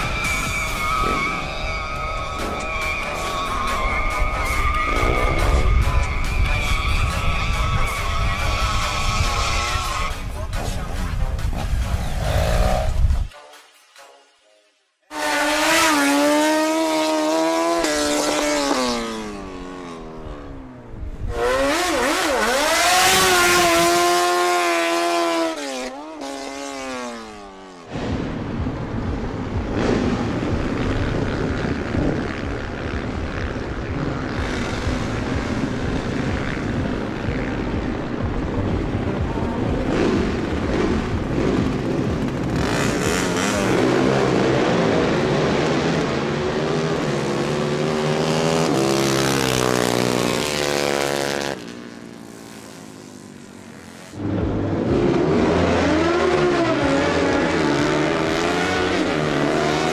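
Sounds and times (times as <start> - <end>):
small motorcycle engines revving: 0.0 - 13.0, 15.1 - 27.9, 29.7 - 59.9.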